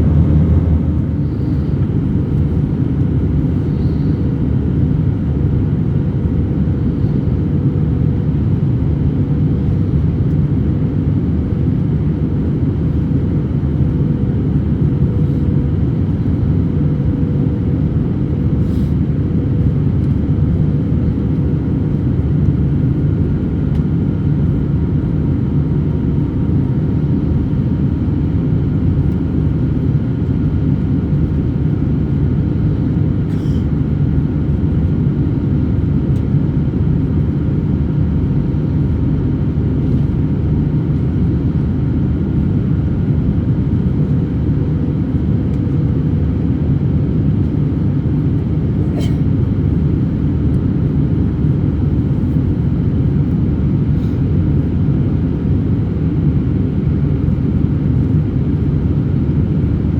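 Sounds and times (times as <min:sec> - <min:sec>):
jet engine and airflow roar: 0:00.0 - 0:59.9.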